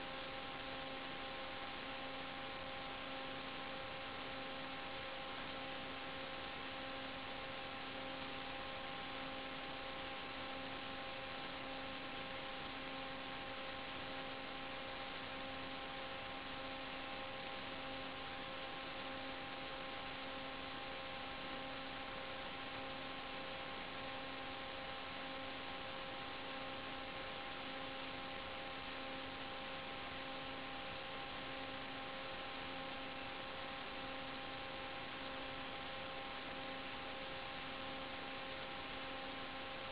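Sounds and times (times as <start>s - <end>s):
electronic hum and static: 0.0s - 39.9s.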